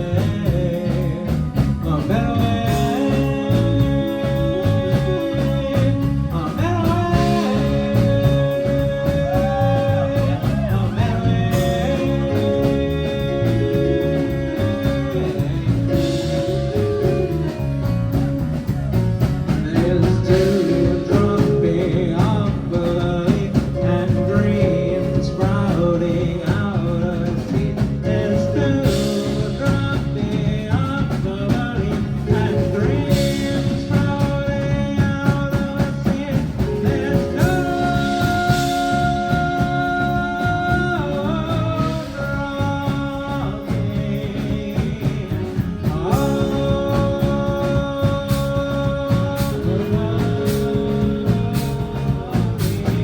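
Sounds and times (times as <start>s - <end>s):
live blues-rock band playing: 0.0s - 53.0s.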